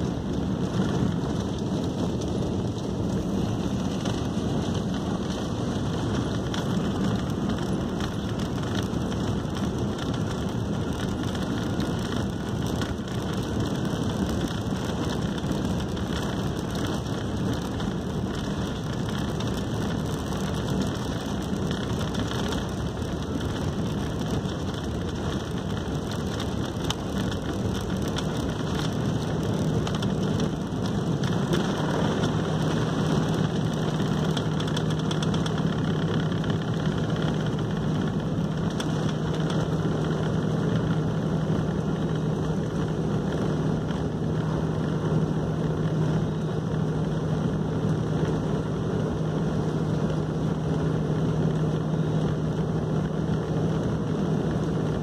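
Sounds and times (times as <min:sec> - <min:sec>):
jet engine and airflow rush: 0:00.0 - 0:55.0.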